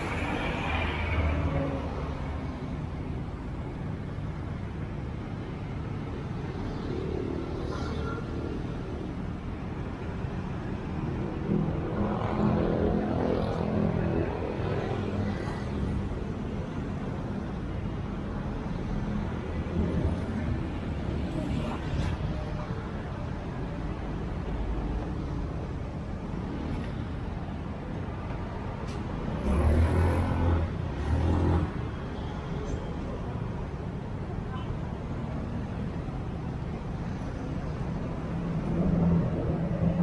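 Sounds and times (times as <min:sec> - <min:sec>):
traffic engines rumbling: 0:00.0 - 0:40.0.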